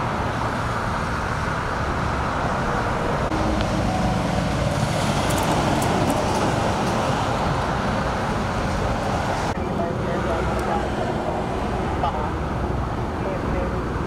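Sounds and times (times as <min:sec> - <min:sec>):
freeway traffic noise: 0:00.0 - 0:14.0.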